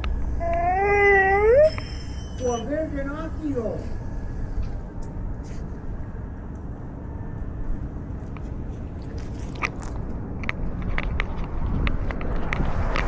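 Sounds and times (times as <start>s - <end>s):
collar rubbing and wind noise: 0.0s - 13.0s.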